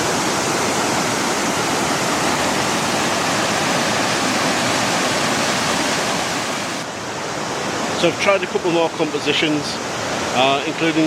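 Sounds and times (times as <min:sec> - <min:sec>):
waterfall cascading over boulders: 0:00.0 - 0:11.0.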